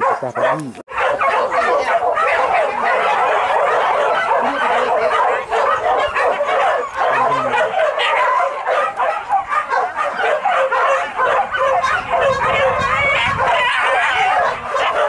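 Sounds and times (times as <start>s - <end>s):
dogs yelping and baying: 0.0s - 15.0s.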